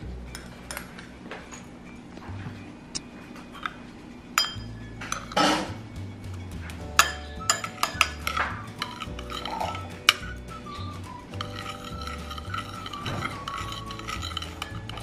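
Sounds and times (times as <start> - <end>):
background music with bass line: 0.0 - 1.3, 2.2 - 3.1, 4.4 - 15.0
utensil clinking against a dish: 0.3 - 2.0, 3.4 - 15.0.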